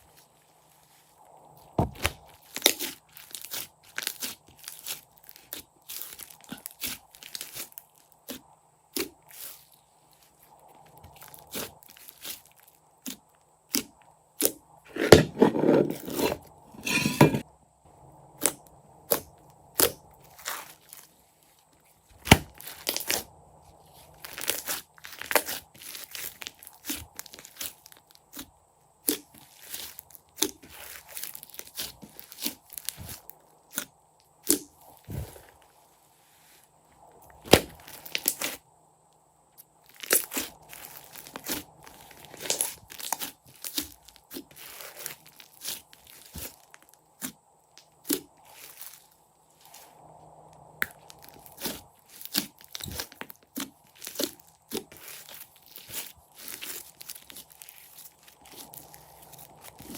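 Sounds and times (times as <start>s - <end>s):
crunchy slime crackling: 0.0s - 17.2s, 18.4s - 35.9s, 37.0s - 38.6s, 39.5s - 59.9s.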